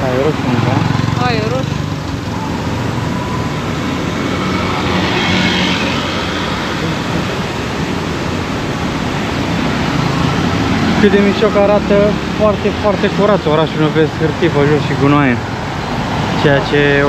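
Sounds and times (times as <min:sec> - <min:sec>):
motor scooters and cars passing: 0:00.0 - 0:17.0.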